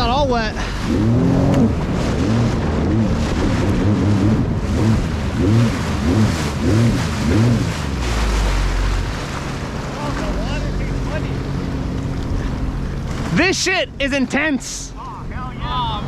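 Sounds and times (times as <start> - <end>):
jet ski engine revving: 0.0 - 16.0.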